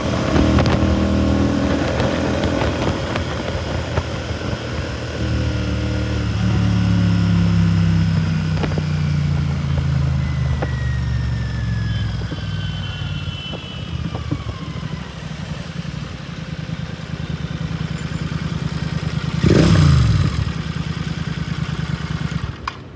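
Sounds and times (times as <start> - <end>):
motorcycle engine: 0.0 - 22.9.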